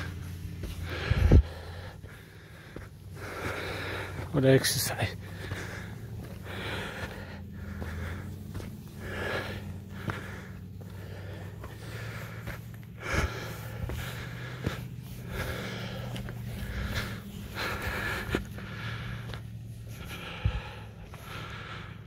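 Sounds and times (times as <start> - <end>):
car engine humming: 0.0 - 22.0
person breathing heavily: 0.0 - 22.0.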